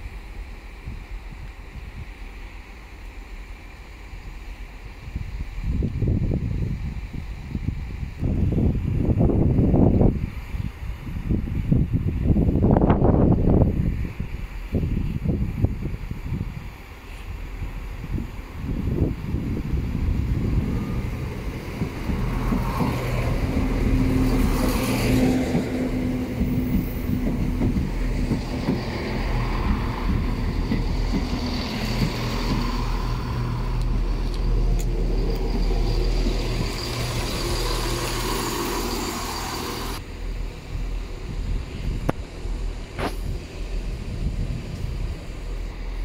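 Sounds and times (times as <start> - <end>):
diesel train engines humming: 0.0 - 46.0
train wheels rumbling on rails: 0.0 - 46.0.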